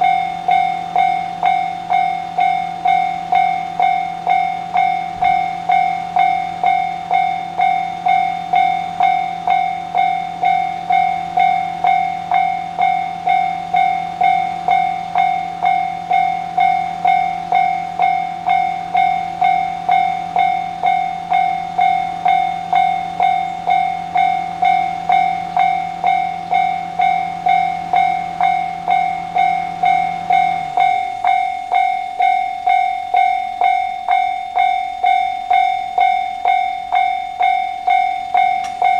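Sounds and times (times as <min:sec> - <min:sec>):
level-crossing warning bell: 0:00.0 - 0:38.9
low steady hum: 0:00.0 - 0:38.9.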